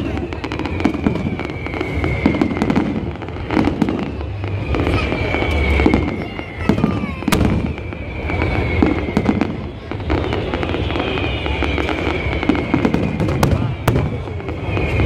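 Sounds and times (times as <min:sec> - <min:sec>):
firework sharp crack: 0:00.0 - 0:15.0
fireworks crackling and banging: 0:00.0 - 0:15.0
high falling whistles: 0:00.0 - 0:15.0.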